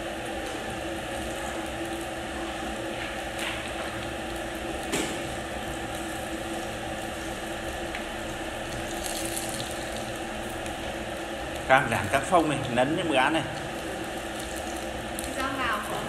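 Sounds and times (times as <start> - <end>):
sausages sizzling in oil: 0.0 - 16.0.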